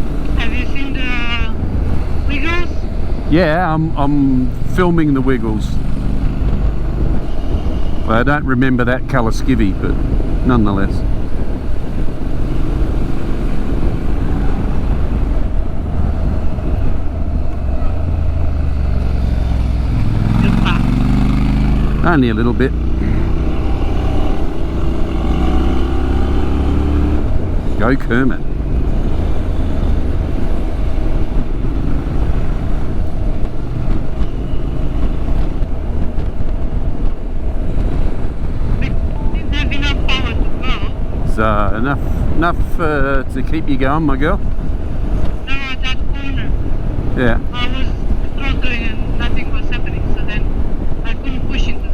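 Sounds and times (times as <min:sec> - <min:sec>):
motorcycle engine rumble: 0:00.0 - 0:42.7
wind noise: 0:00.0 - 0:51.9.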